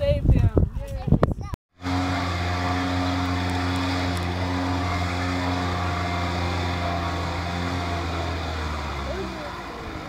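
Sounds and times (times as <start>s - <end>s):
outboard motor droning: 1.8s - 10.0s.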